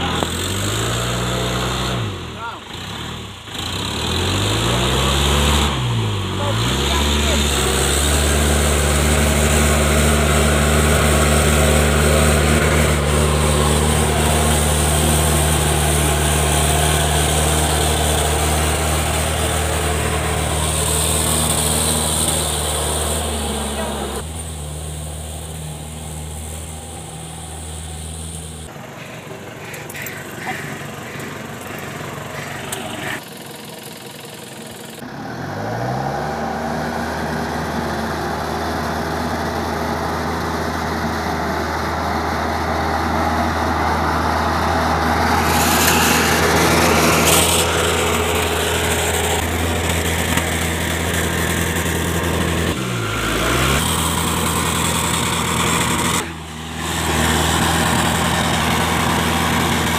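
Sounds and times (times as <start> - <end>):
diesel engine running and revving: 0.0 - 59.9.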